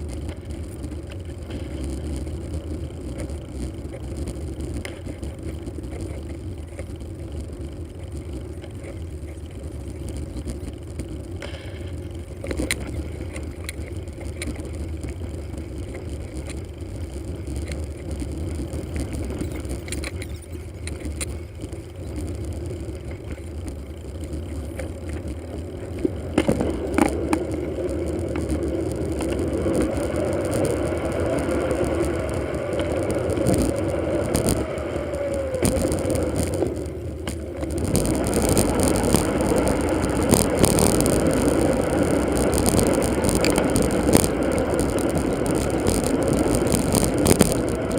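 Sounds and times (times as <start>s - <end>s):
bicycle tyre and wind noise: 0.0s - 47.9s
wavering hum: 0.0s - 47.9s.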